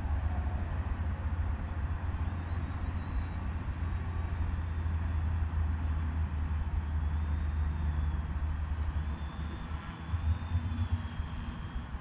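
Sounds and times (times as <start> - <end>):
low rumble of wind: 0.0 - 12.0
model aircraft motors whining: 0.0 - 12.0.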